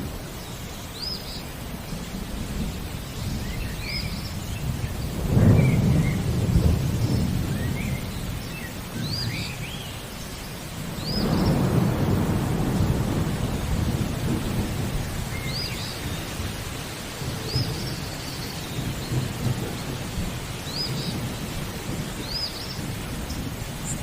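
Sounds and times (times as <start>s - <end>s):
steady rain: 0.0s - 24.0s
thunder rumbling: 1.8s - 9.8s, 10.7s - 24.0s.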